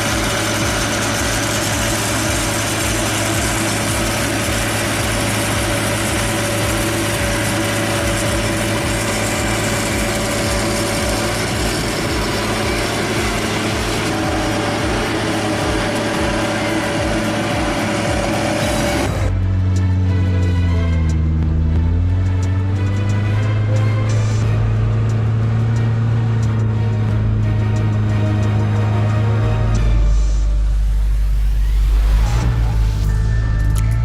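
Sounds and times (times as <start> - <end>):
engine pulsing rumble: 0.0 - 34.0.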